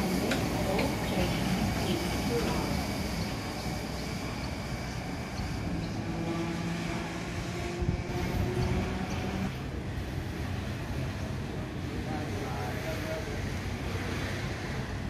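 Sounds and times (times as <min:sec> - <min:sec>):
electric train rumbling: 0:00.0 - 0:15.0
freight train passing: 0:00.0 - 0:15.0.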